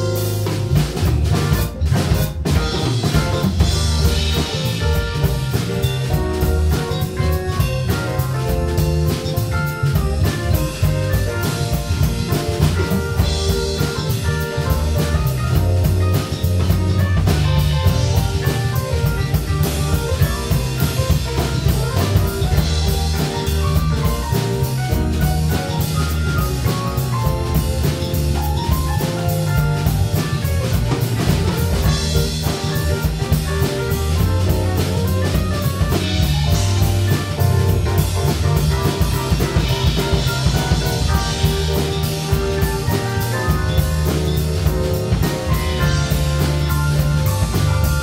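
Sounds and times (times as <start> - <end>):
drum kit beat: 0.0 - 48.0
electric bass: 0.0 - 48.0
keyboards: 0.0 - 48.0.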